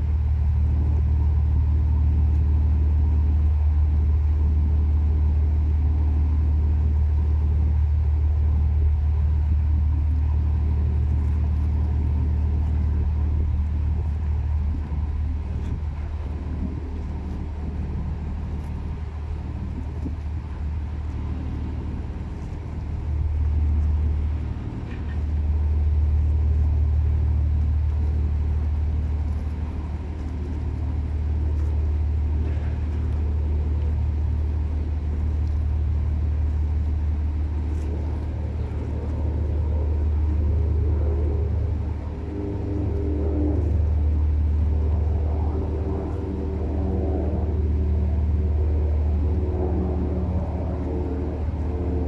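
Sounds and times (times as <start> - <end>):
ship engine rumbling: 0.0 - 52.0.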